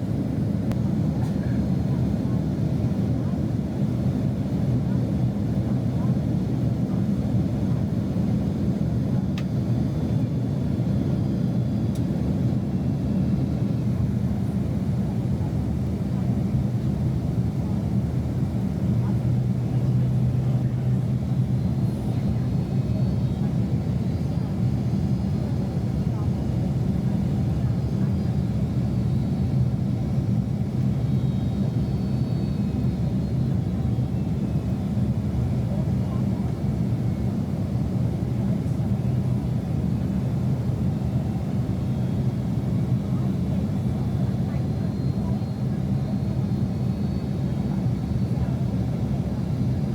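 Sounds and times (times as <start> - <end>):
airplane cabin engine rumble: 0.0 - 49.9.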